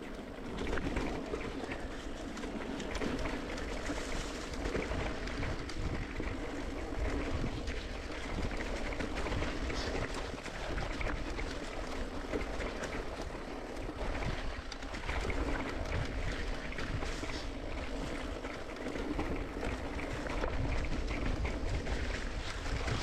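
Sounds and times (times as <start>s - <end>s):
bike rattles and clicks: 0.0s - 23.0s
wind buffeting microphone: 0.0s - 23.0s.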